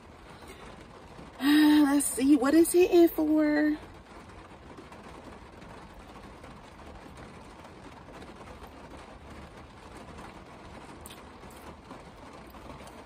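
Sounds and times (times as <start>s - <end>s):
rain on car roof: 0.0s - 13.0s.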